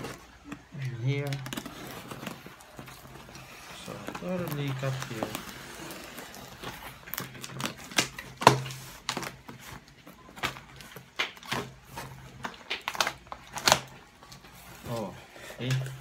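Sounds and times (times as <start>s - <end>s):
cardboard flaps rustling: 0.0s - 16.0s
knife cutting packing tape: 1.2s - 15.0s.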